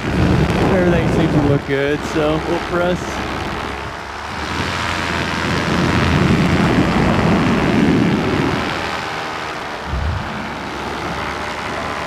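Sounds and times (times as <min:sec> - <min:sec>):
paramotor engine running: 0:00.0 - 0:12.0
wind rush over microphone: 0:00.0 - 0:12.0.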